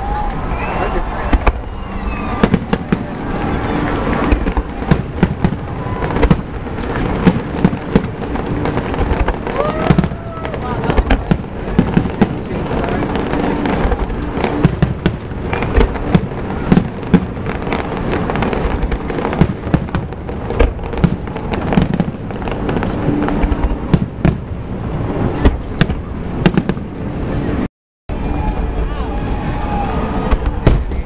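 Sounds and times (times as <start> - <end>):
fireworks bursting: 0.0 - 31.0
fireworks crackling: 0.0 - 31.0.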